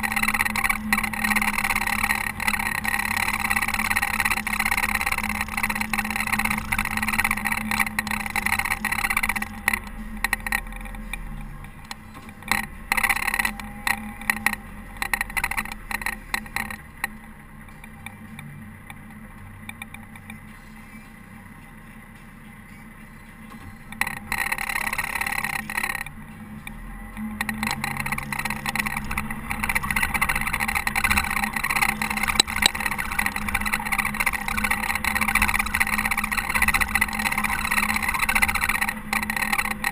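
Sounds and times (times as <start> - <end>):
diesel engine plowing snow: 0.0 - 39.9.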